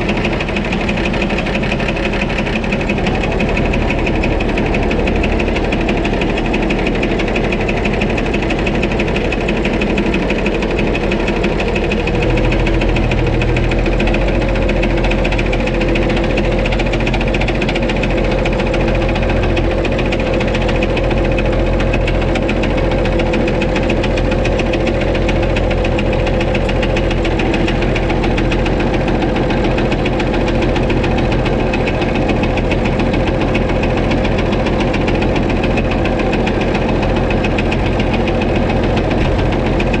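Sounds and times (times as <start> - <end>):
diesel tractor engine knocking: 0.0 - 40.0.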